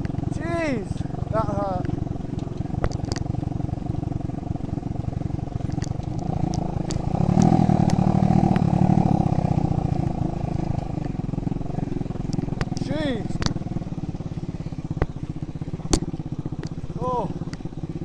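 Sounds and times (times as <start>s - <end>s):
motorbike engine running: 0.0s - 18.0s.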